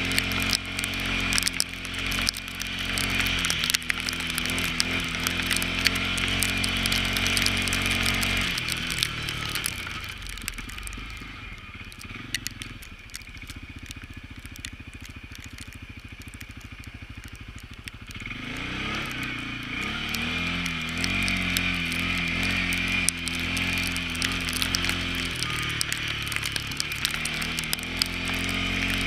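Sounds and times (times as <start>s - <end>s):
atv engine idling and revving: 0.0s - 29.0s
sharp clicks and crackles: 0.0s - 29.0s.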